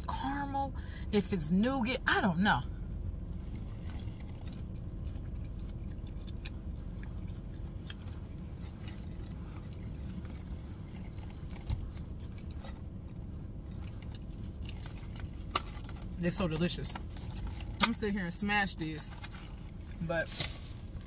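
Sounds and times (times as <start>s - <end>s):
steady low rumble: 0.0s - 21.0s
soft crunching while chewing: 2.6s - 21.0s.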